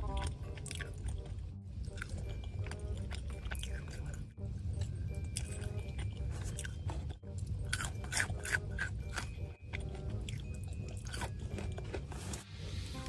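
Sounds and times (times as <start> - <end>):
crunching and chewing food: 0.0 - 13.0
quiet background music: 0.0 - 13.0.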